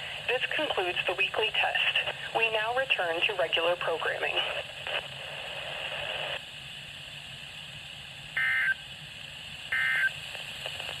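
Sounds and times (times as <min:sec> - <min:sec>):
faint radio hiss: 0:00.0 - 0:11.0.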